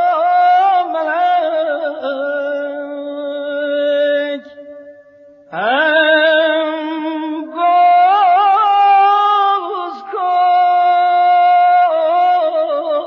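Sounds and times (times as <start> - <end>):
solo voice singing: 0.0 - 4.8, 5.5 - 13.0.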